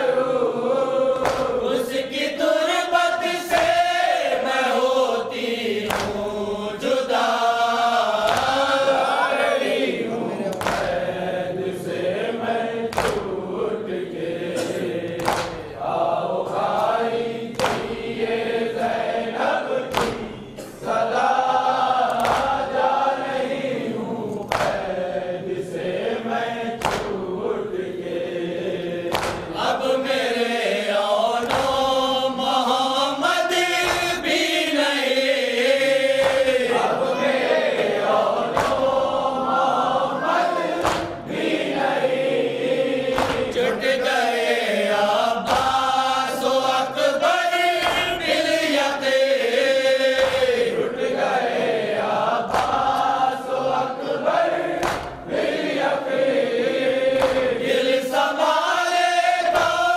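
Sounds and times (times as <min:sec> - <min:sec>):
men chanting together: 0:00.0 - 0:59.9
person reciting into a microphone: 0:00.0 - 0:59.9.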